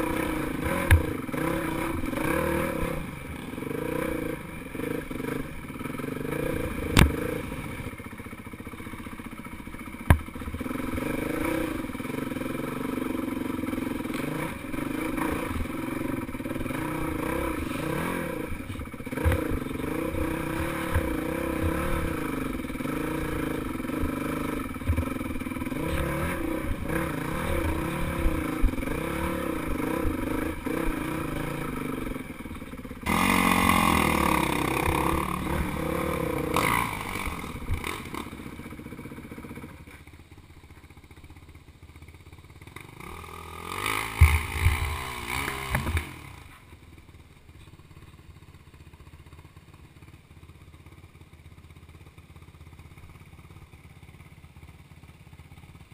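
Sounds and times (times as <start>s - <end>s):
motorbike engine revving: 0.0s - 40.2s, 42.0s - 47.7s.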